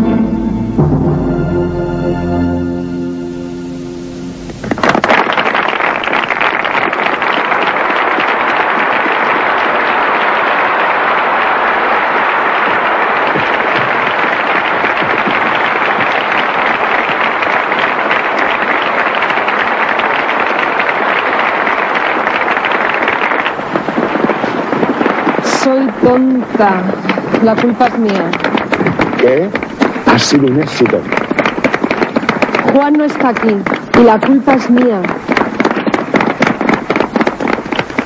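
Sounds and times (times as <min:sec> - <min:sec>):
audience applauding: 0:04.5 - 0:38.0.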